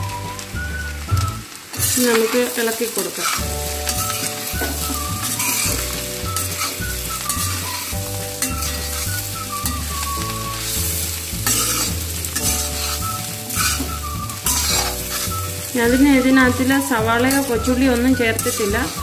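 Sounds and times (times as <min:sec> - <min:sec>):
liver sizzling in oil: 0:00.0 - 0:19.0
stirring in a pan: 0:00.0 - 0:19.0.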